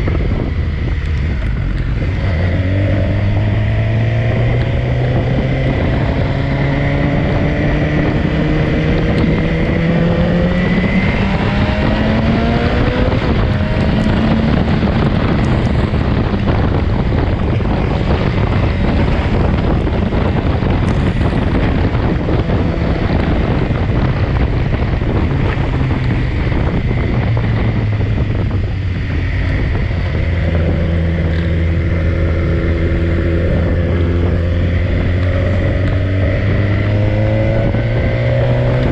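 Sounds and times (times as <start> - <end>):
motorcycle engine accelerating: 0.0 - 38.9
wind noise on microphone: 0.0 - 38.9.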